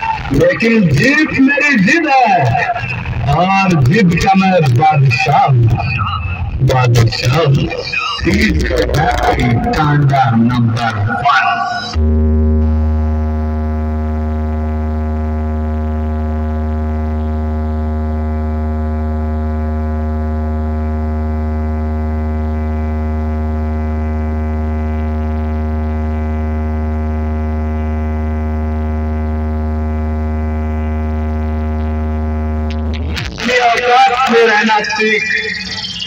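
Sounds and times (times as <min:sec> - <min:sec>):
deep bass drone: 0:00.0 - 0:33.6.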